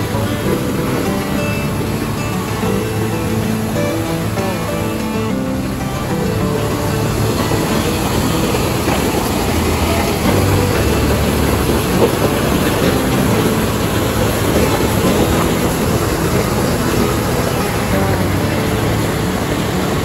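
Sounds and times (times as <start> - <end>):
river rushing over boulders: 0.0 - 20.0
water pouring over weir: 0.0 - 20.0.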